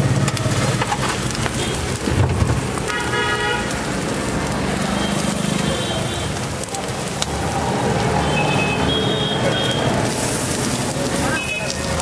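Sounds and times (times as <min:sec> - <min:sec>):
egg sizzling on griddle: 0:00.0 - 0:12.0
street traffic: 0:00.0 - 0:12.0.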